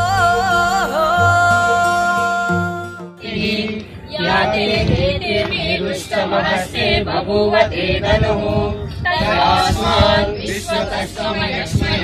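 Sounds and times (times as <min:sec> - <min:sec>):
group singing in unison: 0:00.0 - 0:12.0.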